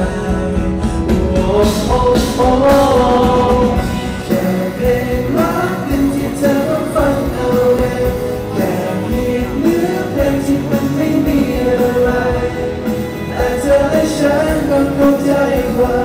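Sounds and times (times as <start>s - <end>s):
backing music: 0.0s - 16.0s
male singers singing pop song: 0.0s - 16.0s.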